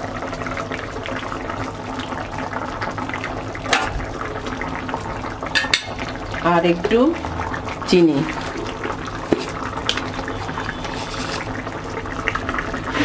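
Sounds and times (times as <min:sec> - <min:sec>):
gravy boiling in a wok: 0:00.0 - 0:13.0.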